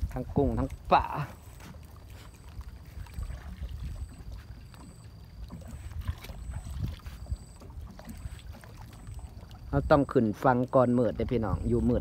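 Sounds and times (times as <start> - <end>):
water and wind rumble: 0.0 - 12.0.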